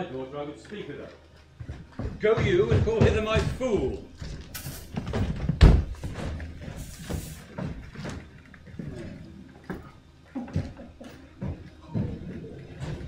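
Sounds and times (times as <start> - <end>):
footsteps on stage floor: 0.7 - 13.0.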